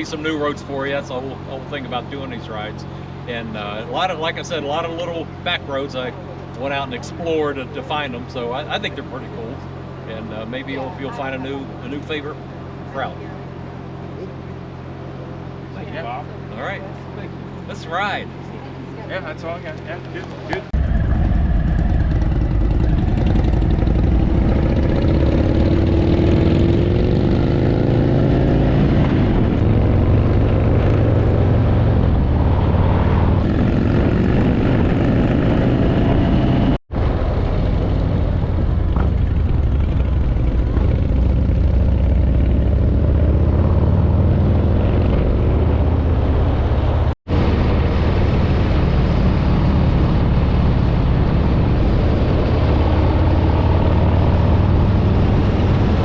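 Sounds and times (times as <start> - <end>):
motorcycle engines accelerating: 0.0 - 56.0.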